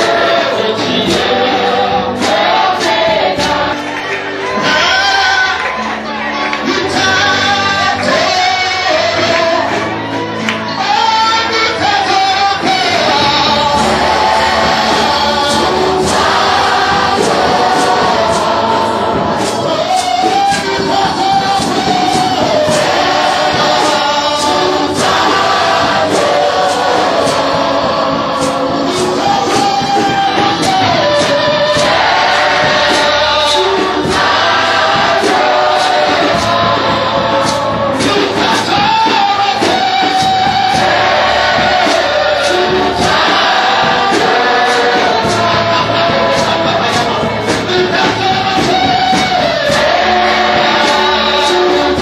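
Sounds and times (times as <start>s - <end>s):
band playing: 0.0s - 52.0s
choir and congregation singing: 0.0s - 52.0s.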